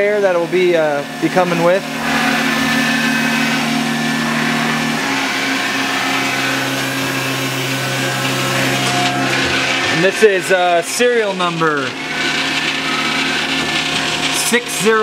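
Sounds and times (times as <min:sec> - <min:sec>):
machining center hum: 0:00.0 - 0:15.0.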